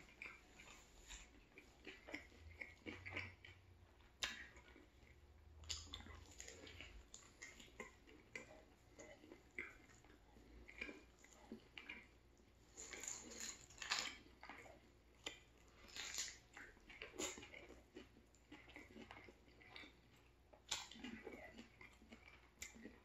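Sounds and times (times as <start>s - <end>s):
man chewing and biting: 0.0s - 23.0s.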